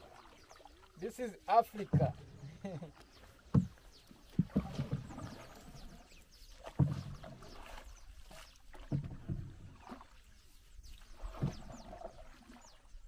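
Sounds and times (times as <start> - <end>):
paddle knocking and splashing: 0.0 - 13.0.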